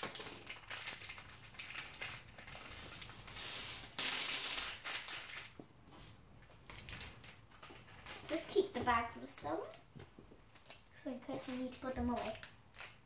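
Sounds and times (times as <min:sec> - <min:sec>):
plastic bag crinkling: 0:00.0 - 0:05.6, 0:06.5 - 0:09.9, 0:10.5 - 0:13.0.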